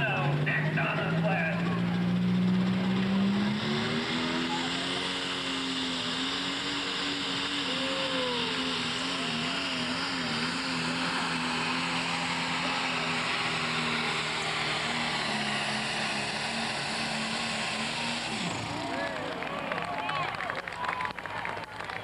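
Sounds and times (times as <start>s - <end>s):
diesel tractor engine at full load: 0.0s - 22.0s.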